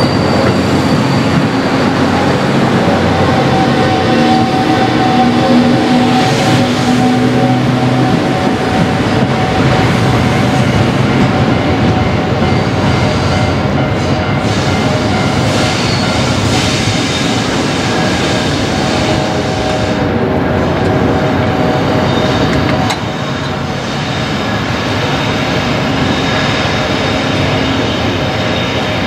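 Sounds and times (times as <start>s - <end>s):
train running: 0.0s - 29.0s.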